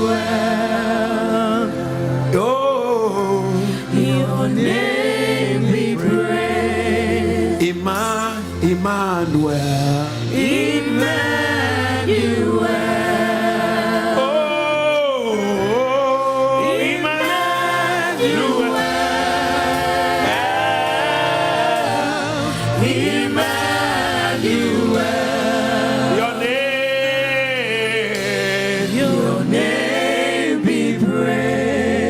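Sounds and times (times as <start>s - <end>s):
group singing gospel: 0.0s - 32.0s
low accompanying notes: 4.0s - 32.0s.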